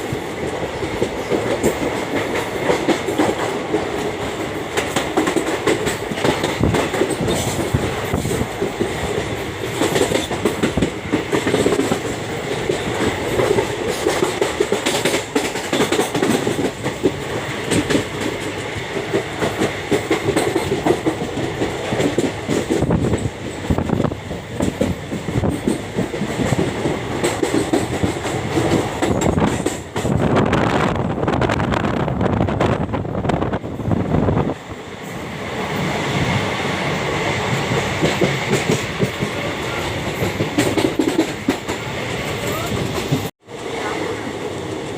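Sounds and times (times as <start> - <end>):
train wheels clattering over joints: 0.0 - 30.4, 35.0 - 43.3
train rumble: 0.0 - 44.9.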